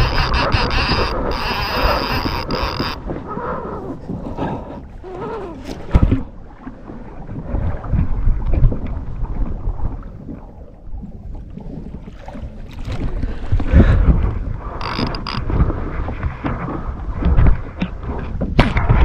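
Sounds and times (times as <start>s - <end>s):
water sloshing against kayak hull: 0.0s - 19.0s.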